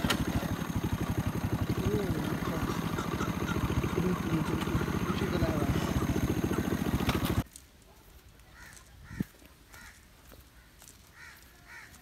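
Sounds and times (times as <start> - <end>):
crows cawing faintly: 0.2 - 7.4, 8.4 - 12.0.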